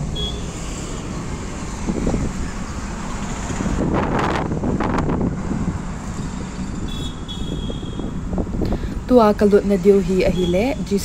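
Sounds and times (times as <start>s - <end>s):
car road and engine noise: 0.0s - 11.0s
wind buffeting microphone: 0.9s - 11.0s.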